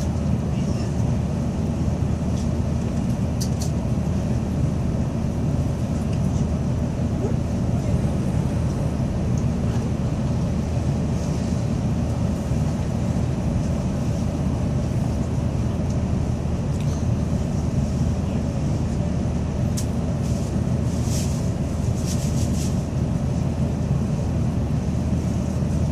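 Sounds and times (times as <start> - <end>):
train cabin rumble: 0.0 - 25.9.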